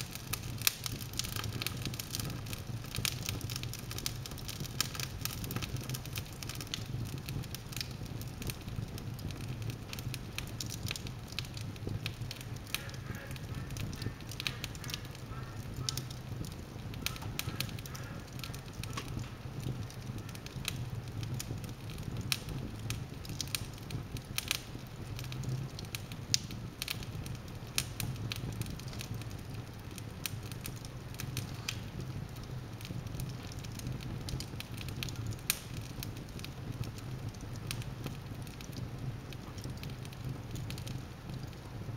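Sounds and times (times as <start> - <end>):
logs crackling in a fireplace: 0.0 - 41.9
sharp pops of burning wood: 0.0 - 41.9.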